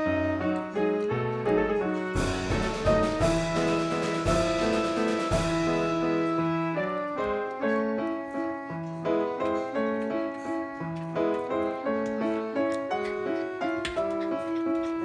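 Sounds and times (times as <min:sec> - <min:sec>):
keyboard tune: 0:00.0 - 0:15.0.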